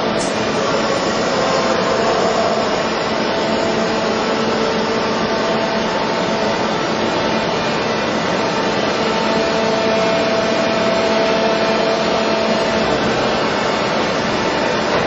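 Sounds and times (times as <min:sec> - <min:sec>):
low hum: 0:00.0 - 0:15.0
steady tones: 0:00.0 - 0:15.0
workshop machinery whirring: 0:00.0 - 0:15.0.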